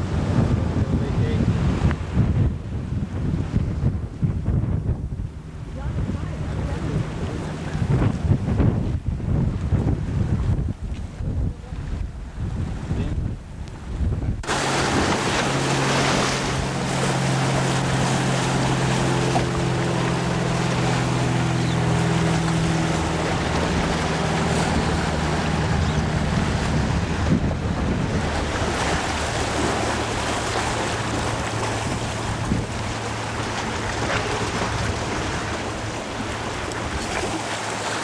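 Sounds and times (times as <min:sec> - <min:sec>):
water rushing past boat: 0:00.0 - 0:38.0
wind buffeting microphone: 0:00.0 - 0:38.0.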